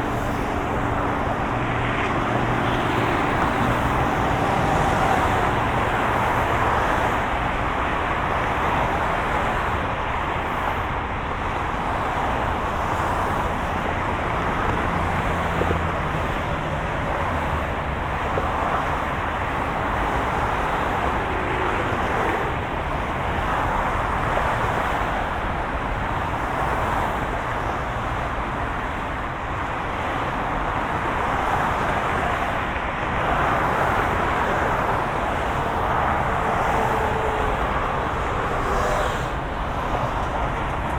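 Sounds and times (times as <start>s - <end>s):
moving car engine and road noise: 0.0s - 40.9s.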